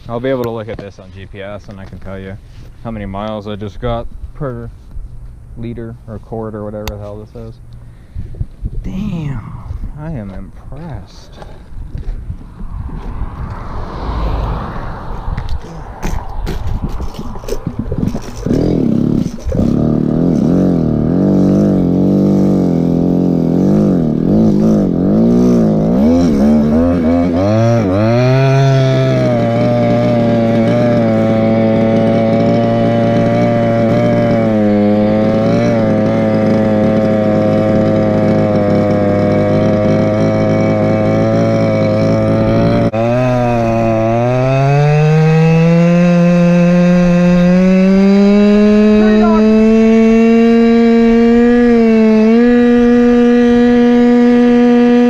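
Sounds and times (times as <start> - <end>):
small two-stroke scooter engine: 10.8 - 55.0.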